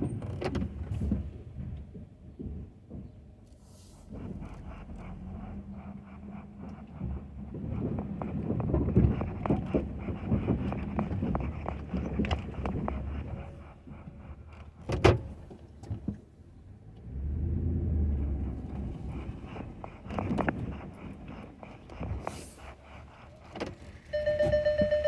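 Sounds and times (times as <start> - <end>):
pickup truck engine running: 4.1 - 25.0.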